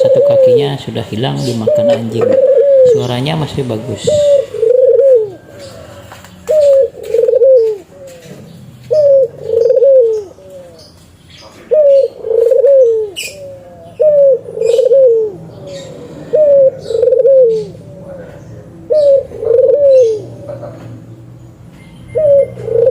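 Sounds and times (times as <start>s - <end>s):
dove cooing: 0.0s - 21.2s, 22.1s - 22.9s
small birds chirping: 0.0s - 22.9s.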